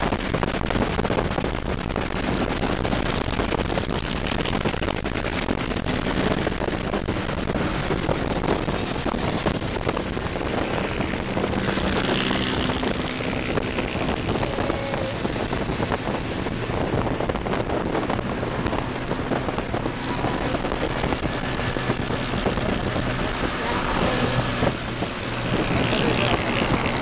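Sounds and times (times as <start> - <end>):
motorcycle engine drone: 0.0 - 27.0
road noise: 0.0 - 27.0
wind rushing over microphone: 0.0 - 27.0.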